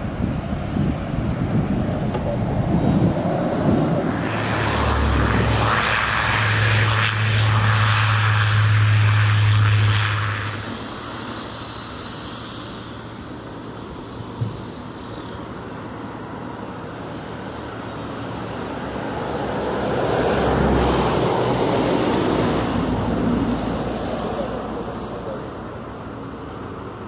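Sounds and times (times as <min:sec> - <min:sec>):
aircraft engine noise: 0:00.0 - 0:27.0.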